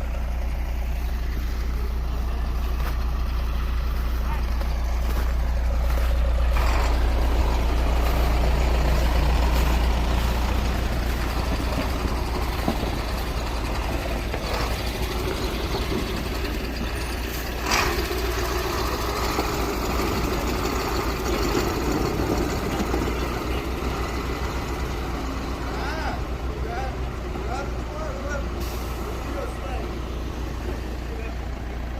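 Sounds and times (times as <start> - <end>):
truck engine humming: 0.0 - 31.9.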